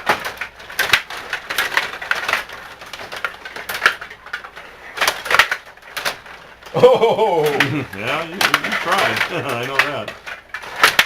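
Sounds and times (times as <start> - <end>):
table hockey clacks and knocks: 0.0 - 11.0.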